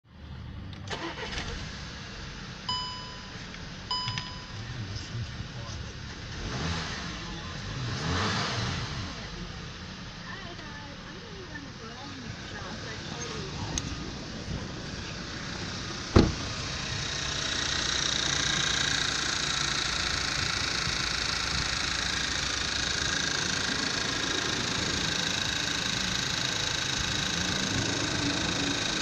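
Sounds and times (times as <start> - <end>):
car engine running: 0.1 - 29.0.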